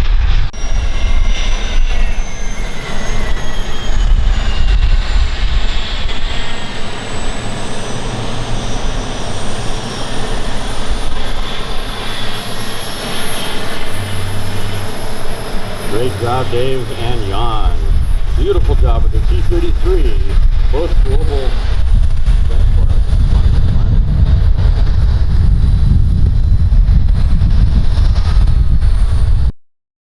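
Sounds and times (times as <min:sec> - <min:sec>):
model jet engines whining: 0:00.0 - 0:29.5.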